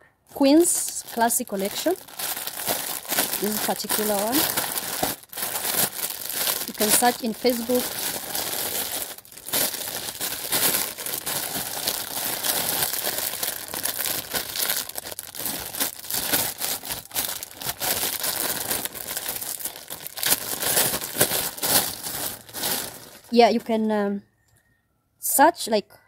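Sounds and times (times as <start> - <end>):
packaging crinkling: 0.5 - 23.6.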